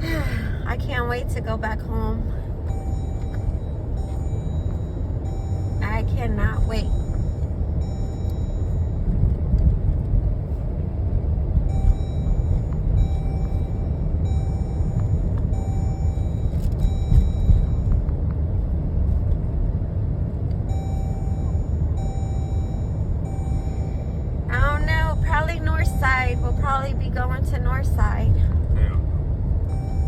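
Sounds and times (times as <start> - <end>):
car interior road noise: 0.0 - 30.0.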